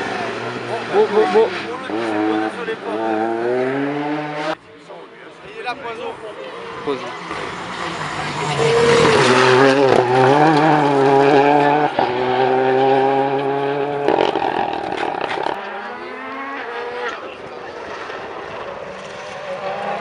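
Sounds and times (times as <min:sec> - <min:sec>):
rally car engine revving: 0:00.0 - 0:04.6, 0:06.5 - 0:20.0
faint rally car approaching: 0:00.0 - 0:20.0.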